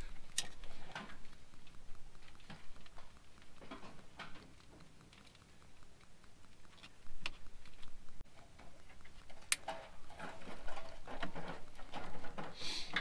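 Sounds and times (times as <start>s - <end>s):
wires rustling: 0.0s - 13.0s.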